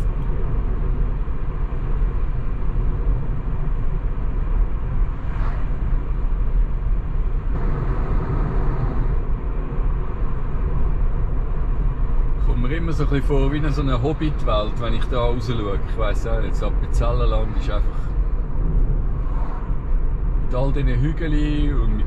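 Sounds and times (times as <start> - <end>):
road and tyre rumble: 0.0 - 22.0
wind hiss in car cabin: 0.0 - 22.0.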